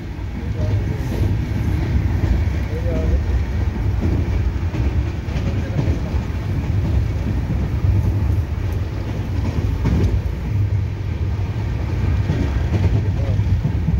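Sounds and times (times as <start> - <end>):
train rumbling: 0.0 - 13.9.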